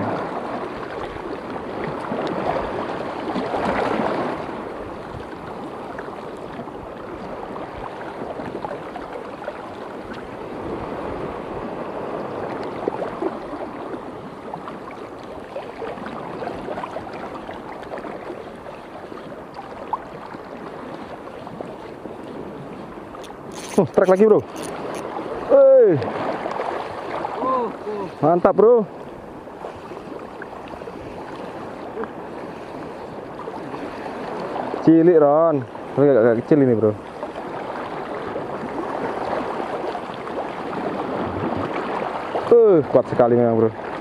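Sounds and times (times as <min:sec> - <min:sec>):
water splashing and lapping: 0:00.0 - 0:44.0.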